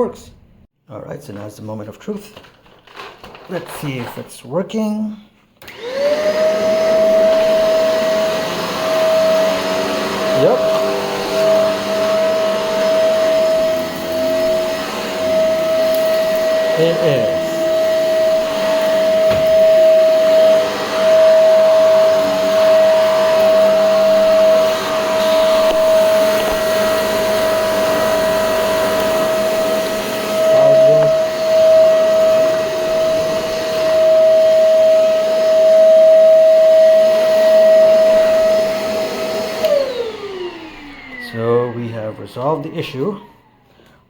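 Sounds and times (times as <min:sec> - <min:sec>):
vacuum cleaner motor whine: 0:05.6 - 0:43.6.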